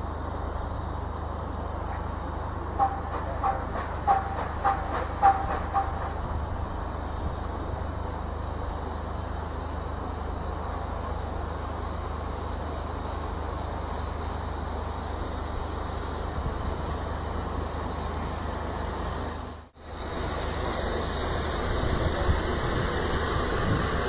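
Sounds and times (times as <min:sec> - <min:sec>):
steam hissing: 0:00.0 - 0:24.0
steam locomotive exhaust chuffs: 0:00.0 - 0:24.0.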